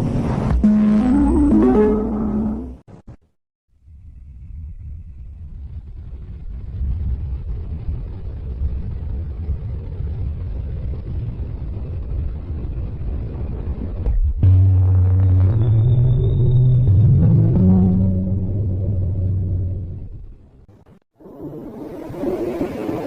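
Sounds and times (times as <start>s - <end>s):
low steady rumbling: 3.7s - 23.0s.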